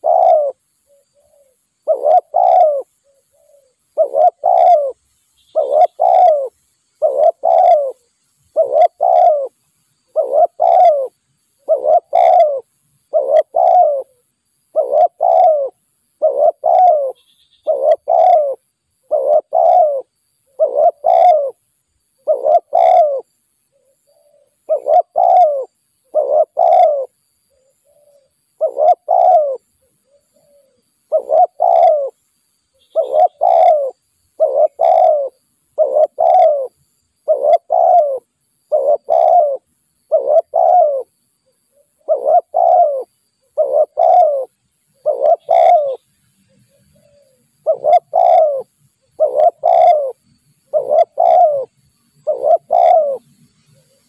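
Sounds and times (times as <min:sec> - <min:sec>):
dove cooing: 0:00.0 - 0:21.6, 0:22.2 - 0:32.2, 0:32.8 - 0:54.0.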